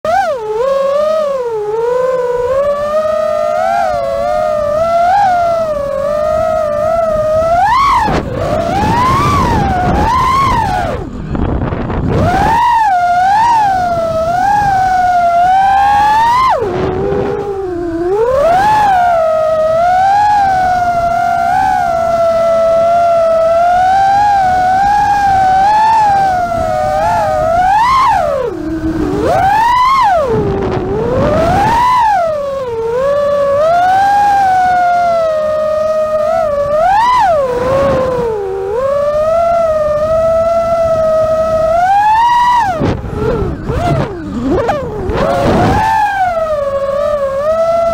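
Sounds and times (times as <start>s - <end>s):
drone motors whining: 0.1s - 47.9s
wind rushing on microphone: 0.1s - 47.9s.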